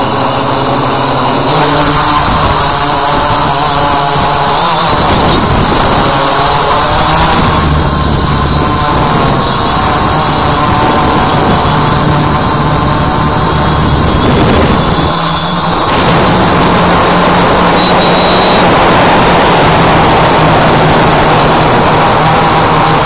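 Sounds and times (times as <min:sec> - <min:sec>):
drone motors buzzing: 0:00.0 - 0:23.0.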